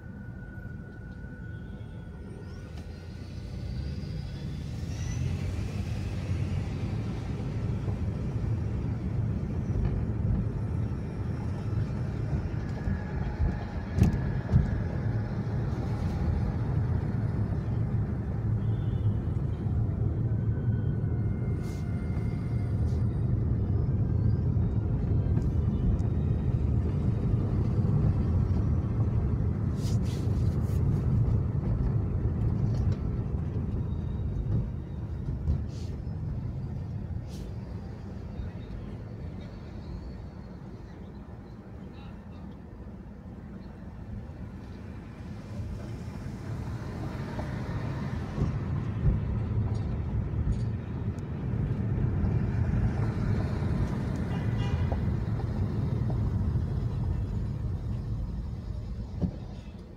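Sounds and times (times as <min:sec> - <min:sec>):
street traffic: 0:00.0 - 0:59.9.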